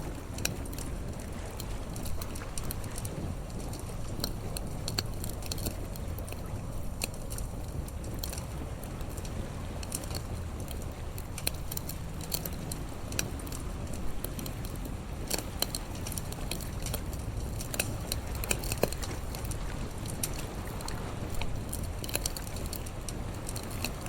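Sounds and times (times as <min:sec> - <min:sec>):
campfire crackling: 0:00.0 - 0:24.0
low rumble of sea: 0:00.0 - 0:24.0.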